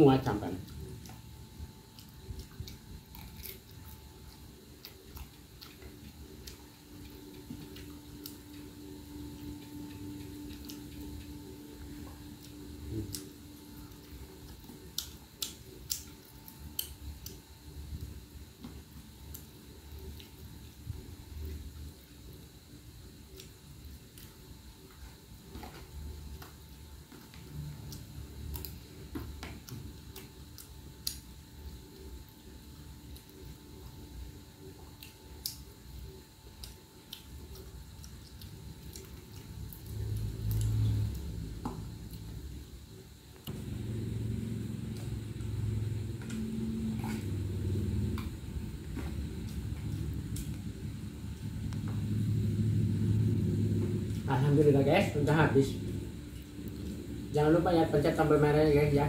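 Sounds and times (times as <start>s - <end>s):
steady low hum: 0.0s - 59.0s
eating clicks and smacks: 0.1s - 42.7s, 43.3s - 54.3s
man chewing: 0.6s - 54.3s.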